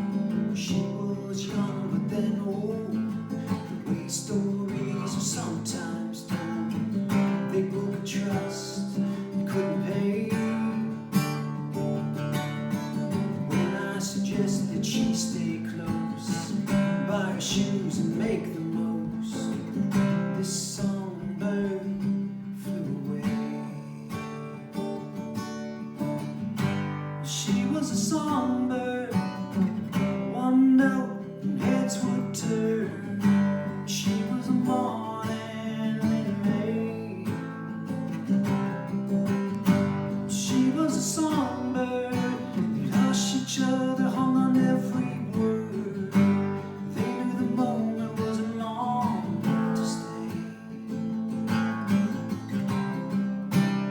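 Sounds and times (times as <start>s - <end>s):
acoustic guitar strumming chords: 0.0s - 53.9s.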